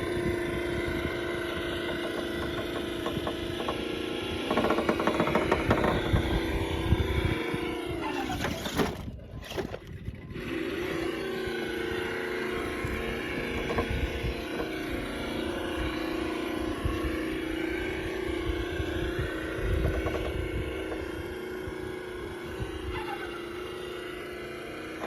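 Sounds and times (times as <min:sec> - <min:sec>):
simulated engine sound: 0:00.0 - 0:25.0.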